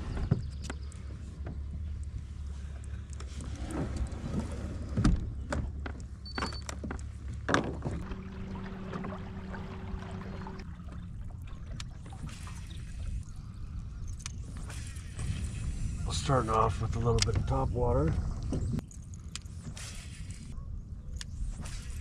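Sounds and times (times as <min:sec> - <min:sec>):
water lapping against hull: 0:00.0 - 0:20.6, 0:21.3 - 0:22.0.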